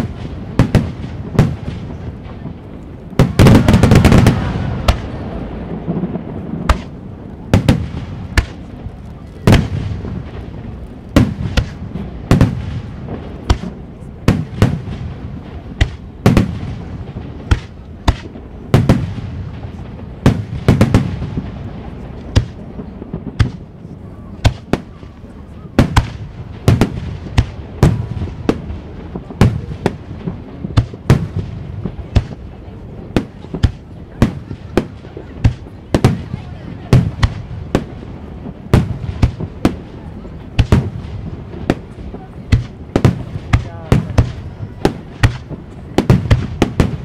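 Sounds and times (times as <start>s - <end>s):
firework crackle: 0.0s - 47.0s.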